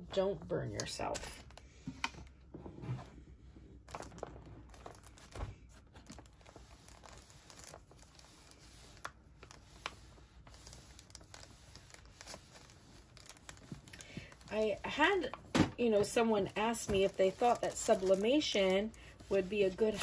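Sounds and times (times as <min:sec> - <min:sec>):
paper rustling and crinkling: 0:03.8 - 0:20.0.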